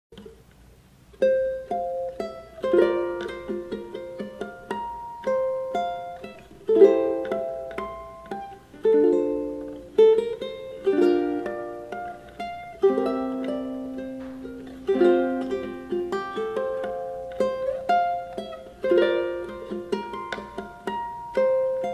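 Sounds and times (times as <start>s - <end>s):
ukulele playing melody and chords: 0.1s - 21.9s.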